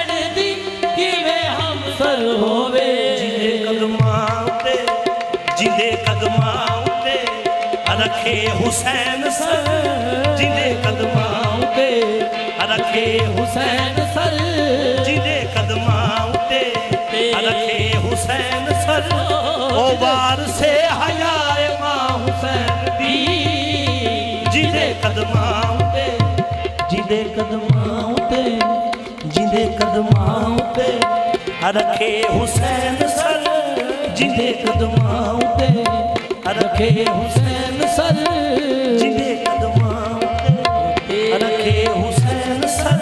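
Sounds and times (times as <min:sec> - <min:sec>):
harmonium drone: 0:00.0 - 0:43.0
tabla drumming: 0:00.0 - 0:43.0.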